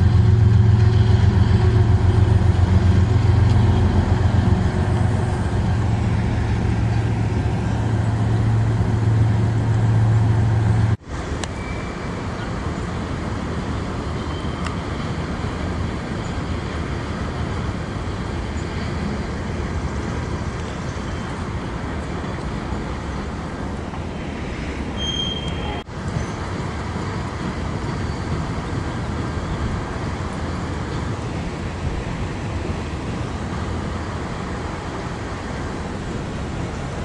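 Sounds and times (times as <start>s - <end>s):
train cars rolling over bridge: 0.0s - 37.0s.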